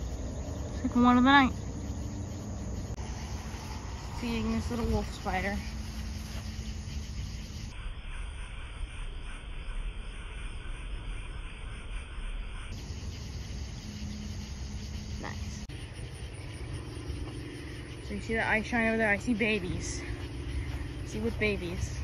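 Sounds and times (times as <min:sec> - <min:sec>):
crickets chirping: 0:00.0 - 0:22.0
faint low hum: 0:00.0 - 0:22.0.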